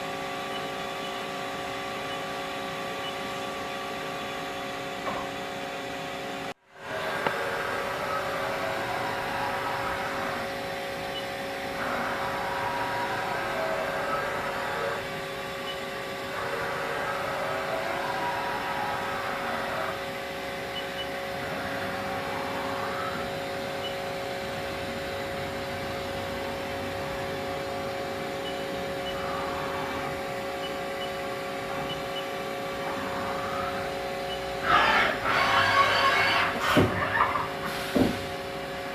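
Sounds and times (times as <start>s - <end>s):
lathe whining: 0.0s - 38.9s.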